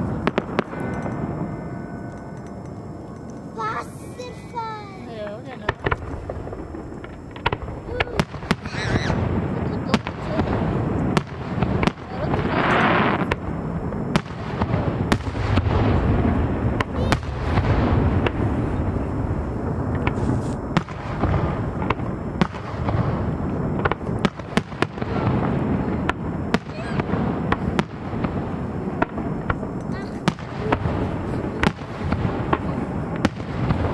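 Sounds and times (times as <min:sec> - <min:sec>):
continuous rumble: 0:00.0 - 0:33.9
fireworks bursting with sharp bangs: 0:00.0 - 0:33.9.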